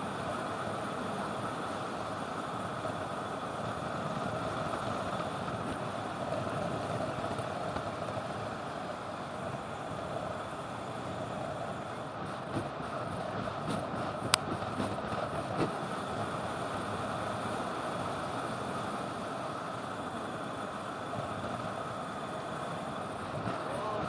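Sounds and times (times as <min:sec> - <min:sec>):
wind over microphone: 0:00.0 - 0:19.1, 0:21.0 - 0:24.0
bike tyres rolling on asphalt: 0:00.0 - 0:24.0.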